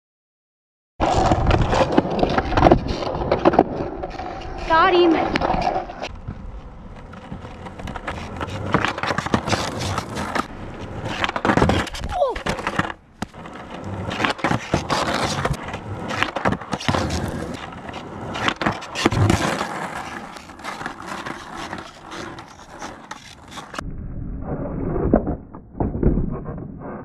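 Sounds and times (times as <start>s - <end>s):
skateboard clacks and knocks: 1.0s - 23.8s
skateboard wheels rolling on asphalt: 1.0s - 27.0s.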